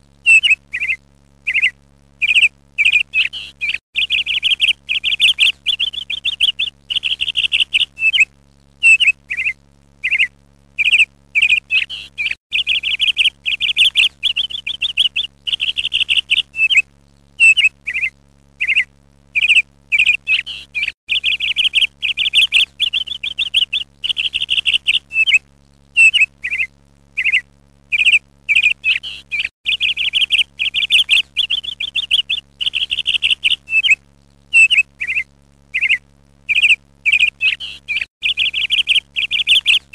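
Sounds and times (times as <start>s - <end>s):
ducklings peeping: 0.3s - 16.8s, 17.4s - 25.4s, 26.0s - 39.9s.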